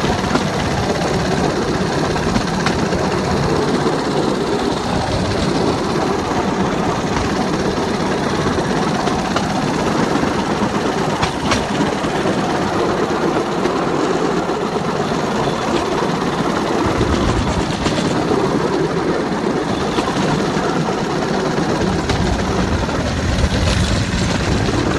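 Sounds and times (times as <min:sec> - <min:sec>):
wheels rumbling on rails: 0:00.0 - 0:24.9.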